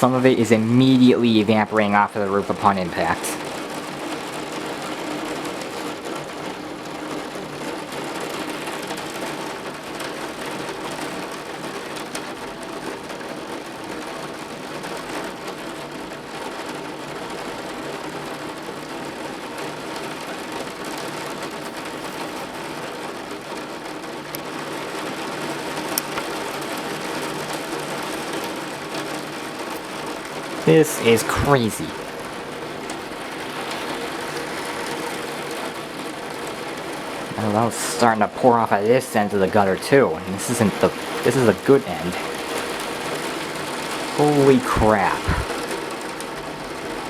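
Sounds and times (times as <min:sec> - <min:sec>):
gutters overflowing: 0:00.0 - 0:47.0
heavy rain on roof: 0:00.0 - 0:47.0.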